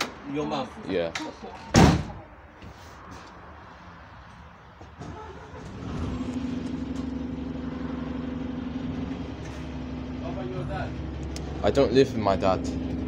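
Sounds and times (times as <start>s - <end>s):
bus engine drone: 1.3s - 13.0s.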